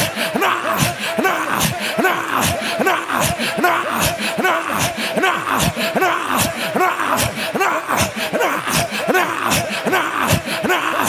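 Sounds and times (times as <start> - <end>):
man praying in rapid syllables: 0.0 - 11.0.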